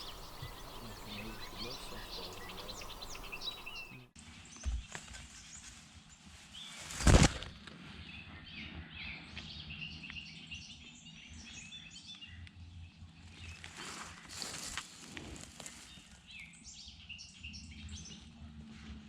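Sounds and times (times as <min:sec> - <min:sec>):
songbirds chirping: 0:00.0 - 0:06.9, 0:07.6 - 0:19.0.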